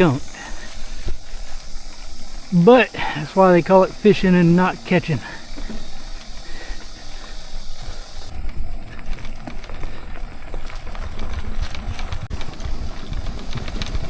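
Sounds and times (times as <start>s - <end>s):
bike clicks and knocks: 0.0s - 14.0s
wind buffeting microphone: 0.0s - 14.0s.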